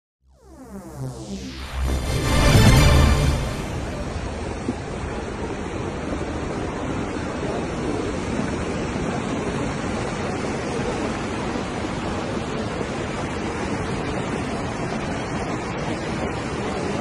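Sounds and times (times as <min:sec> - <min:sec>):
torrential rain: 0:00.4 - 0:17.0
floodwater rushing down street: 0:00.6 - 0:17.0.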